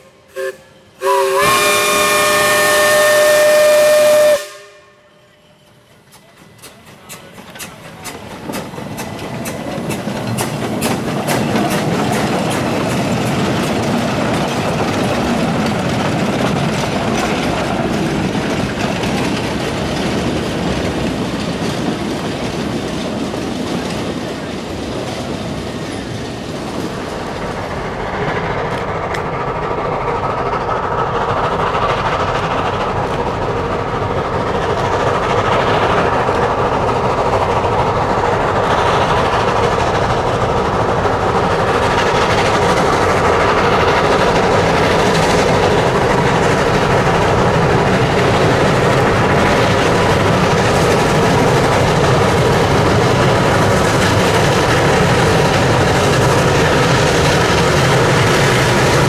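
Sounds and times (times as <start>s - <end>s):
train wheels clicking over rail joints: 5.6s - 59.0s.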